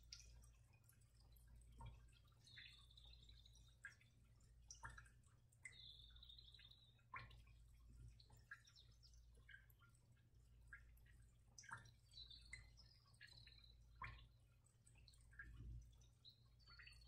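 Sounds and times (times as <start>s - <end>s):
faint ticks: 0.0s - 17.0s
low steady hum: 0.0s - 17.0s.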